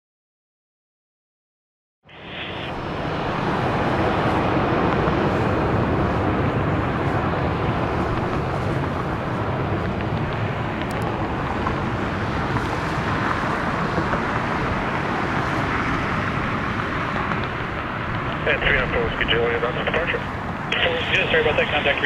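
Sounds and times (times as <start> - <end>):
jet engine rush: 2.1 - 22.0.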